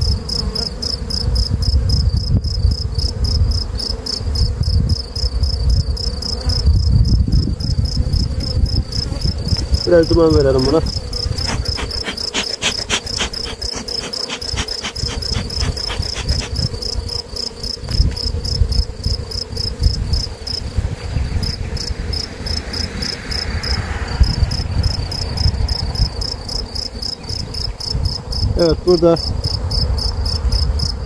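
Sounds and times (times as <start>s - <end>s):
wind rumble on microphone: 0.0s - 0.3s, 1.2s - 31.0s
honeybees humming: 0.0s - 2.1s, 2.8s - 31.0s
cricket chirping: 0.0s - 31.0s.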